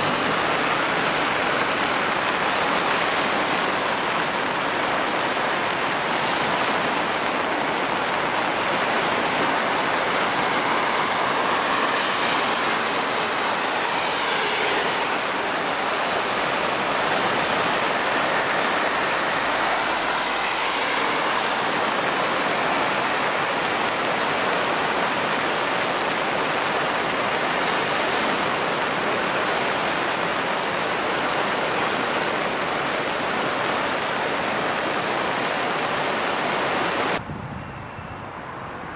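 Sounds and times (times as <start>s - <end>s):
floodwater rushing: 0.0s - 37.2s.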